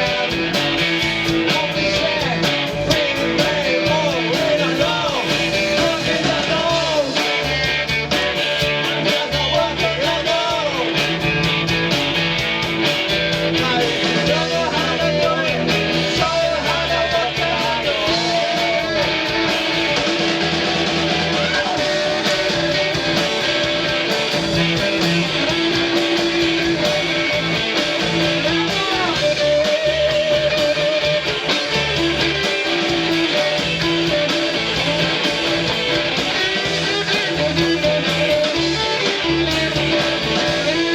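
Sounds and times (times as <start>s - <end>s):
bass guitar: 0.0s - 40.9s
drum beat with cymbals: 0.0s - 40.9s
electric guitar bending notes: 0.0s - 40.9s.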